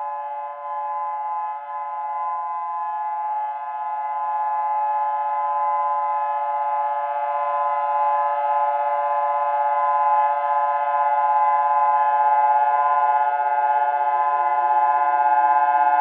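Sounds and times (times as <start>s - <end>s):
tornado warning siren: 0.0s - 16.0s.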